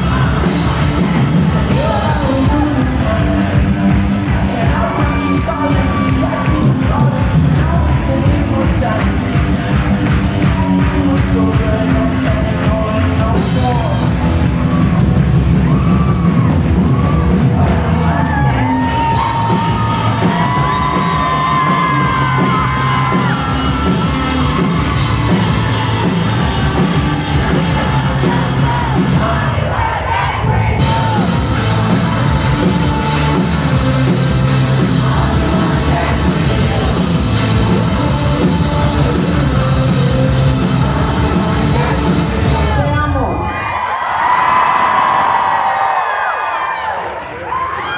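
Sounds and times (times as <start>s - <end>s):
crowd yelling: 0.0s - 8.6s, 13.3s - 47.9s
person singing: 0.0s - 14.8s, 17.2s - 43.2s
rock band playing live: 0.0s - 43.1s.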